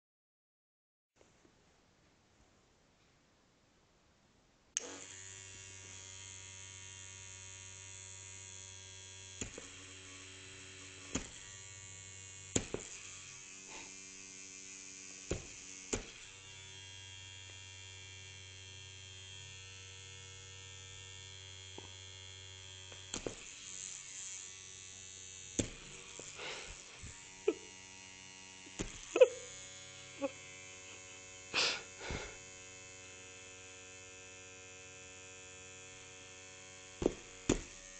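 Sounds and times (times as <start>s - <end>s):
electric toothbrush buzzing: 4.8s - 37.9s.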